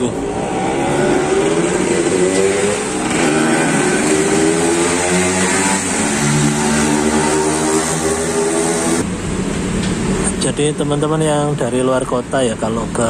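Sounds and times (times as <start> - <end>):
vehicles passing on street: 0.0 - 13.0.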